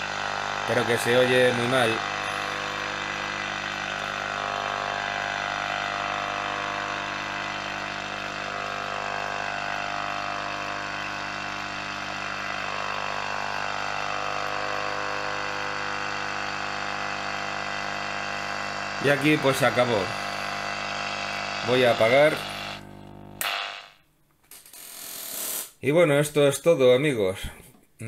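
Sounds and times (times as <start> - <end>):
radio hum and noise: 0.0 - 24.0
weak radio station: 0.0 - 24.0.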